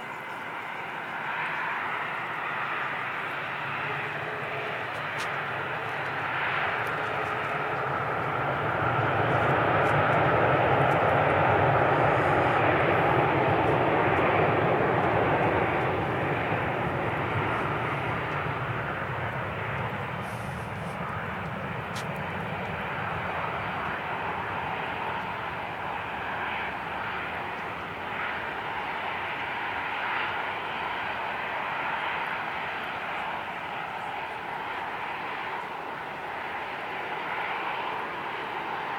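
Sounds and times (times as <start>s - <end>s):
airliner engine noise: 0.0s - 38.9s.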